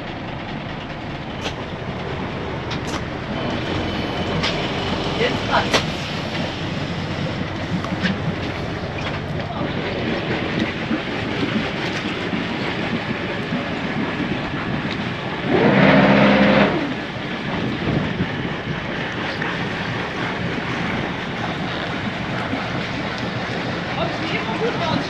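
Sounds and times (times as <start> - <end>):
diesel engines idling: 0.0 - 25.0
wind on microphone: 1.4 - 25.0.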